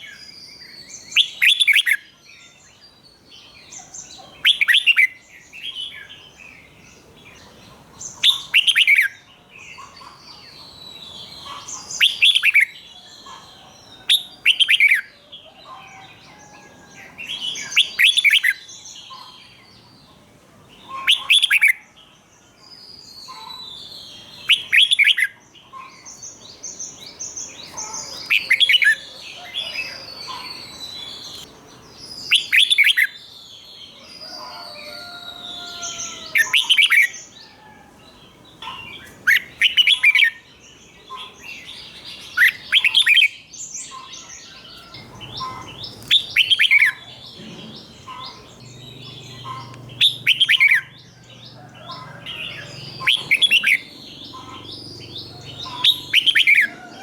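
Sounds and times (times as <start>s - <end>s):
bird song phrases: 0.0s - 57.0s.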